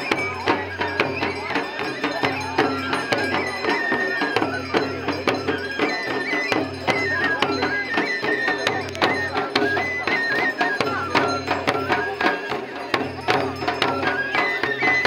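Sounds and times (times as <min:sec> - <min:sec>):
high wind instrument melody: 0:00.0 - 0:15.0
steady drum beats: 0:00.0 - 0:15.0.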